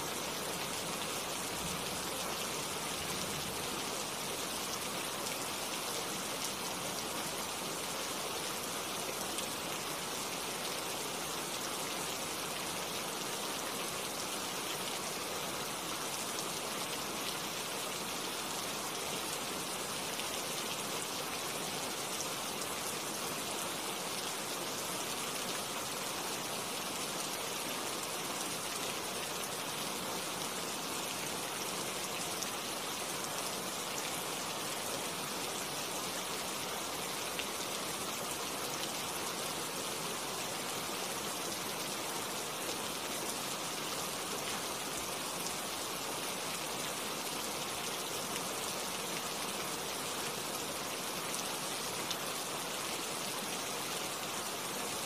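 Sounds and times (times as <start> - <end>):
rain on tree leaves: 0.0 - 55.0.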